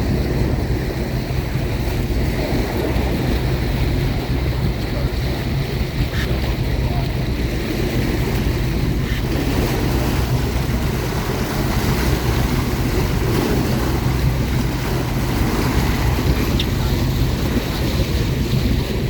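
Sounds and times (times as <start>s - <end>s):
boat motor humming: 0.0s - 19.0s
water washing against hull: 0.0s - 19.0s
wind on microphone: 0.0s - 19.0s.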